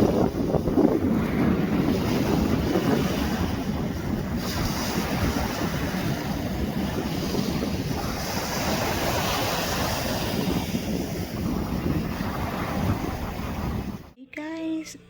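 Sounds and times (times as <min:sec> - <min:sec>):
surf washing on shore: 0:00.0 - 0:14.2
wind buffeting microphone: 0:00.0 - 0:14.2.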